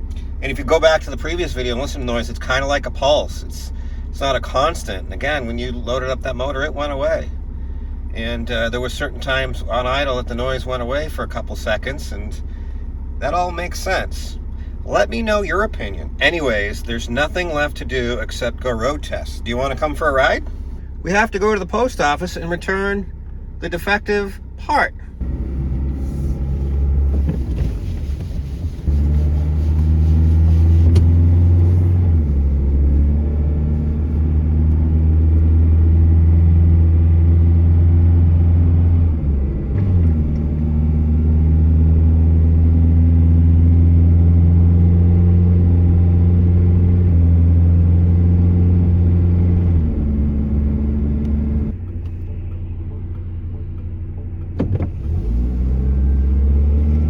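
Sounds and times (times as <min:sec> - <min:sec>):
pickup engine drone: 0:00.0 - 0:57.0
road noise: 0:00.0 - 0:57.0.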